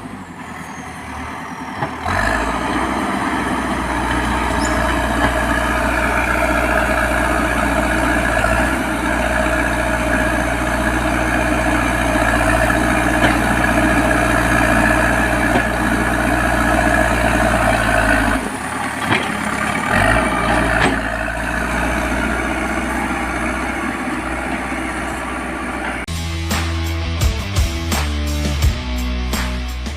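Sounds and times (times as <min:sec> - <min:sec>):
heavy diesel engine rumbling: 0:00.0 - 0:29.9.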